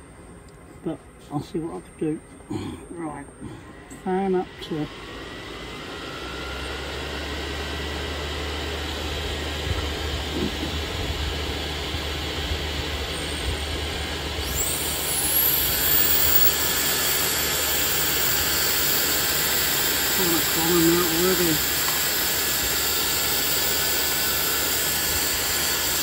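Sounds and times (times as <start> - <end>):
fan whine rising in pitch: 0.0 - 26.0
blower fan rushing air: 2.5 - 26.0.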